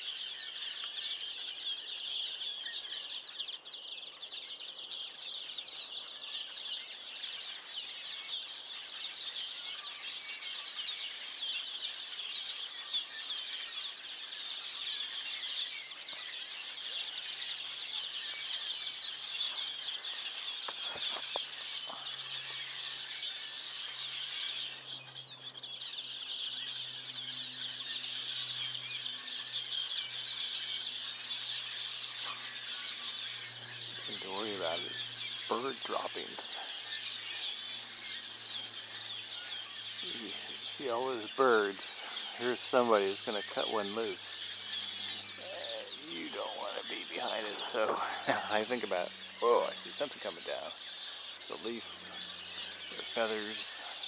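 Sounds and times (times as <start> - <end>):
flock of small birds chattering: 0.0 - 54.0.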